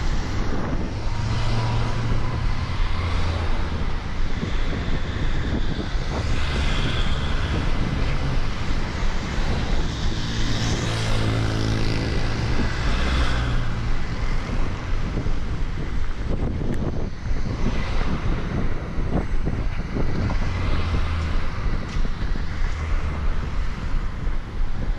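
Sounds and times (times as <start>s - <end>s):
road traffic passing: 0.0s - 24.9s
wind buffeting microphone: 0.0s - 24.9s.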